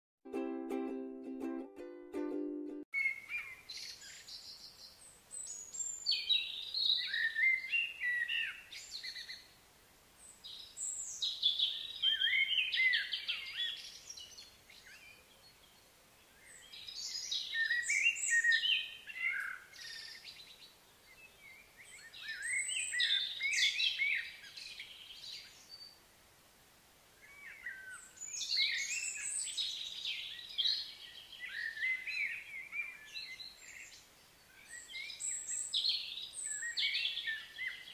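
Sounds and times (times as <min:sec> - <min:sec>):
songbird singing: 0:01.2 - 0:09.6, 0:10.2 - 0:26.1, 0:27.1 - 0:37.9.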